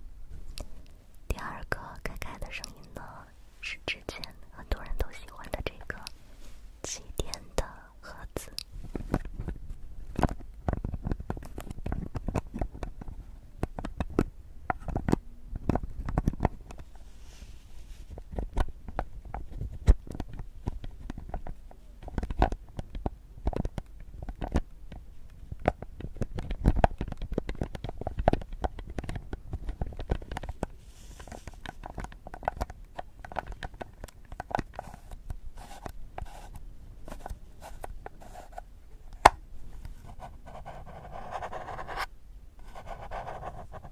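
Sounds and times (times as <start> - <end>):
small taps clicks and scratches: 0.5 - 3.2, 4.1 - 6.2, 6.9 - 17.0, 18.1 - 43.9.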